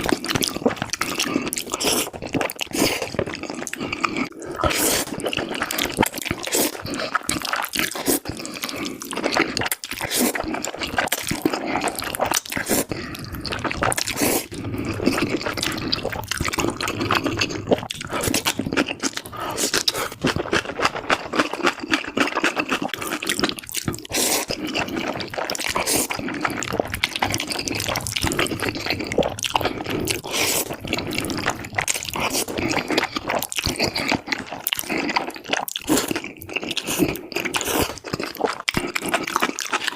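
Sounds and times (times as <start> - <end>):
wet slurping and chewing: 0.0 - 39.9.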